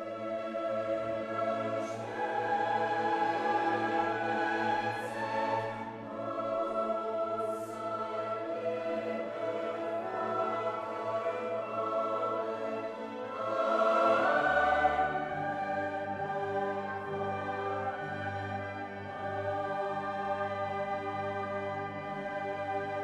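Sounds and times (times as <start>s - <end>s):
choir singing: 0.0s - 23.0s
orchestral accompaniment: 0.0s - 23.0s.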